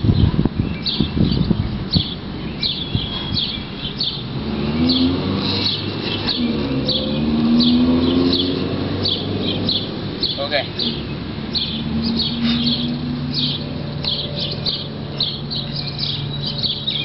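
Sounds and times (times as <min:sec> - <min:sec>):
songbird chirping: 0:00.0 - 0:17.0
car driving by: 0:02.6 - 0:17.0.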